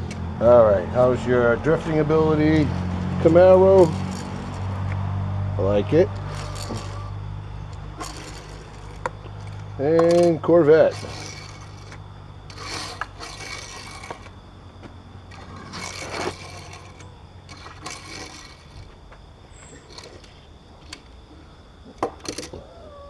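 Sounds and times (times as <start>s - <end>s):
toy car wheels scraping and rolling: 3.2s - 5.0s, 5.6s - 23.0s.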